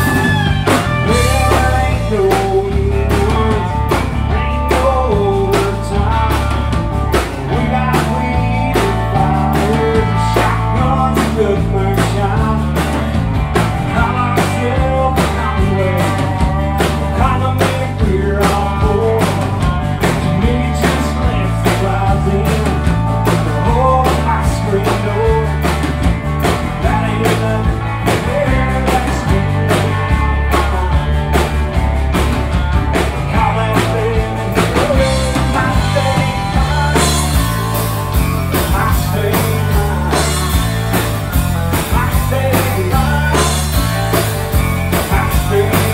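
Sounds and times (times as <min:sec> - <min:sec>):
lead vocal singing: 0:00.0 - 0:25.9, 0:26.6 - 0:31.5, 0:33.0 - 0:45.9
bass guitar: 0:00.0 - 0:45.9
drum kit beat: 0:00.0 - 0:45.9
electric guitar: 0:00.0 - 0:45.9
strummed acoustic guitar: 0:00.0 - 0:45.9.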